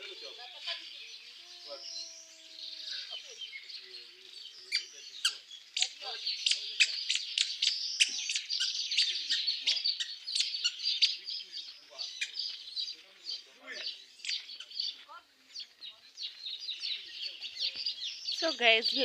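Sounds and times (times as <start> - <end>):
bats squeaking and chattering: 0.0 - 19.0.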